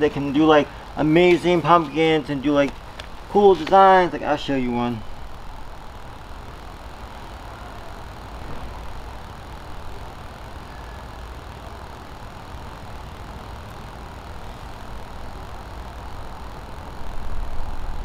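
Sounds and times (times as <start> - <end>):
even hiss: 0.0 - 18.0.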